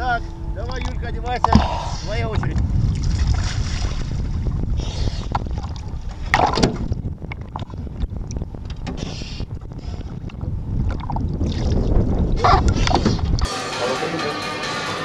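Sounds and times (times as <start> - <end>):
wind buffeting microphone: 0.0 - 13.5.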